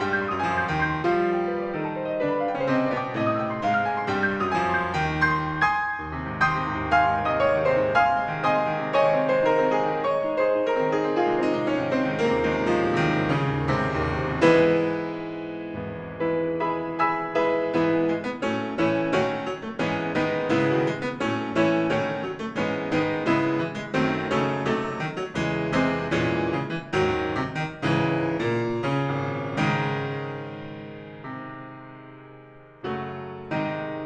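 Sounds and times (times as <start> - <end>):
solo piano piece: 0.0 - 34.0.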